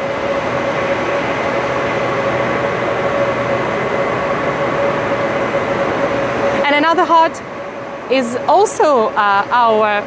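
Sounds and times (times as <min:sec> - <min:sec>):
metro train rush and hum: 0:00.0 - 0:10.0.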